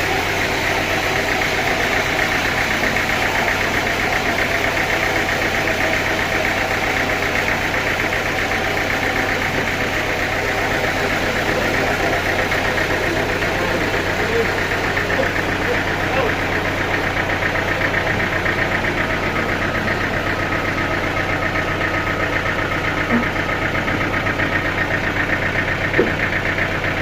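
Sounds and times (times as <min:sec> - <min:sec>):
sawmill engine pulsing: 0:00.0 - 0:27.0.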